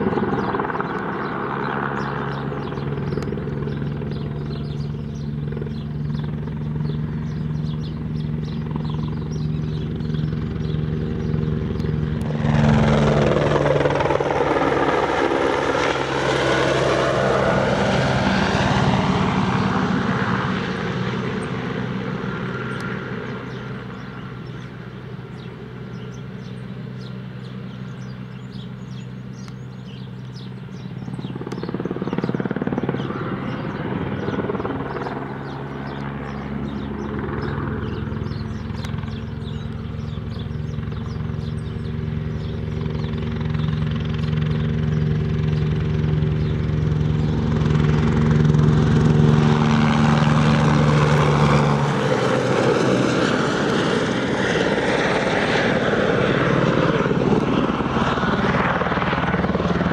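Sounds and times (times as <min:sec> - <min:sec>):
helicopter flying low: 0:00.0 - 0:59.9.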